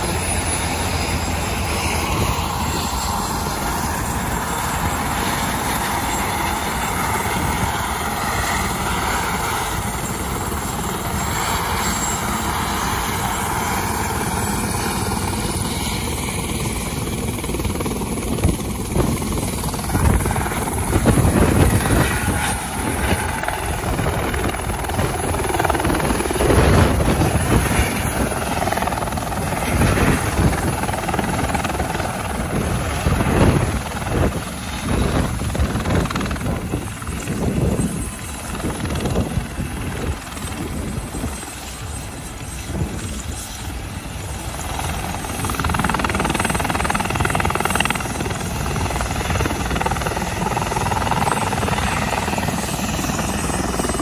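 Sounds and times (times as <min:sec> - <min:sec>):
helicopter turbine and rotor: 0:00.0 - 0:54.0.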